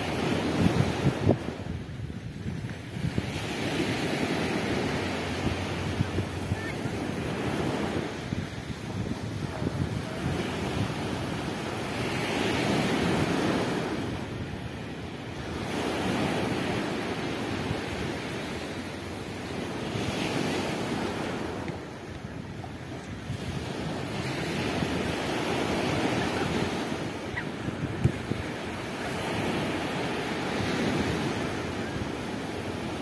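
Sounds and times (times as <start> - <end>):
sea surf on sandy beach: 0.0 - 33.0.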